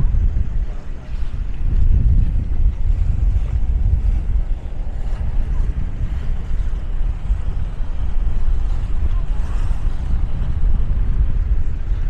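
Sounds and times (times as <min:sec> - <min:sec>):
tugboat engine drone: 0:00.0 - 0:12.0
wind buffeting microphone: 0:00.0 - 0:12.0.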